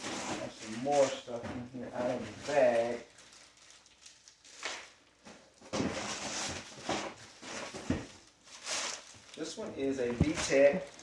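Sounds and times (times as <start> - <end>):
items being handled: 0.0 - 11.0.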